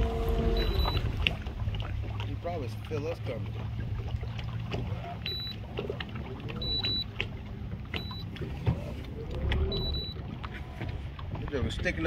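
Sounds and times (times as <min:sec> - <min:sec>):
boat motor running: 0:00.0 - 0:12.0
water noise: 0:00.0 - 0:12.0
wind: 0:00.0 - 0:12.0.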